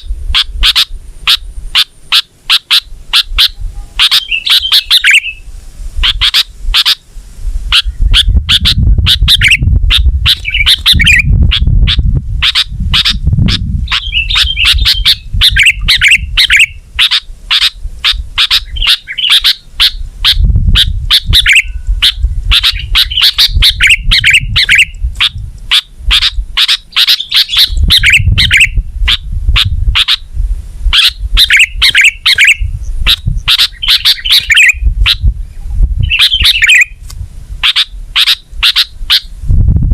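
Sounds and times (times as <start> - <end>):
bird chirping and chattering: 0.0 - 5.4, 6.0 - 7.0, 7.7 - 30.3, 30.9 - 35.3, 36.0 - 37.0, 37.6 - 39.3.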